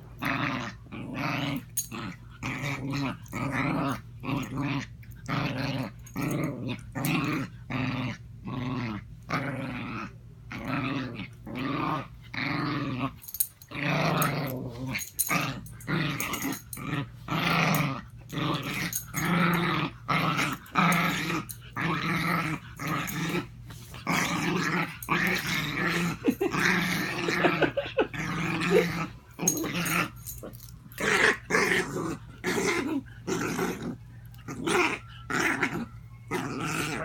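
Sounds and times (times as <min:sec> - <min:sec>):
dog growling: 0:00.2 - 0:37.0.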